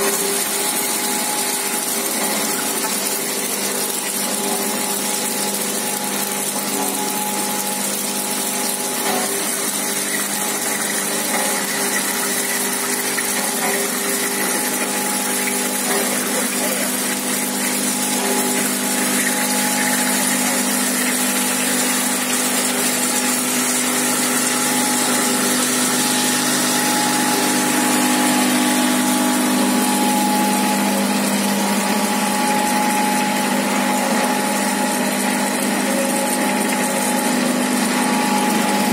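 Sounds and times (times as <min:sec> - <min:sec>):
mechanical hum: 0:00.0 - 0:38.9.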